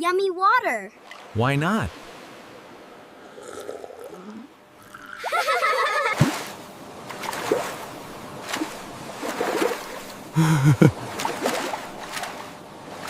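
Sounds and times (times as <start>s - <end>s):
water splashing and sloshing: 0.9s - 4.8s, 5.6s - 13.0s.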